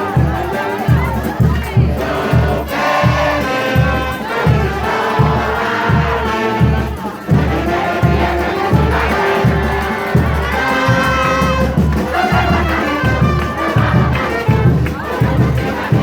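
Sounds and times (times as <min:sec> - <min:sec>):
bass drum beat: 0:00.0 - 0:16.0
brass band music: 0:00.0 - 0:16.0
crowd: 0:00.0 - 0:16.0.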